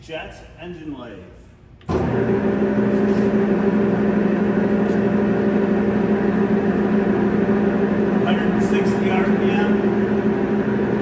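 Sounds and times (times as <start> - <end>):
lathe machine hum: 1.9 - 11.0.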